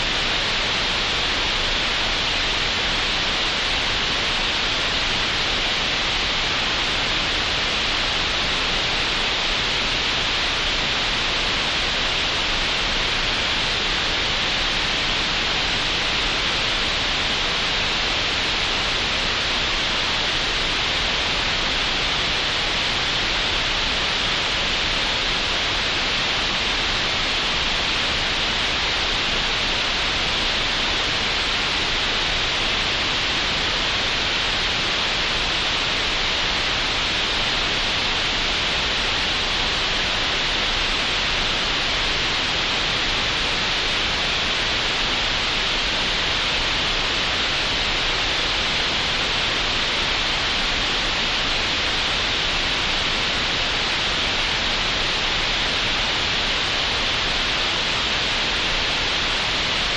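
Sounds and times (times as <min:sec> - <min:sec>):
steady synthesised hiss: 0:00.0 - 0:59.9.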